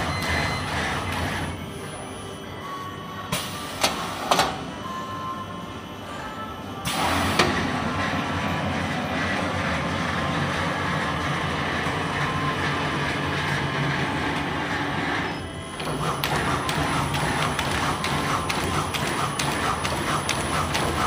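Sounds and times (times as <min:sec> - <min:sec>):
machine running with low hum: 0:00.0 - 0:21.0.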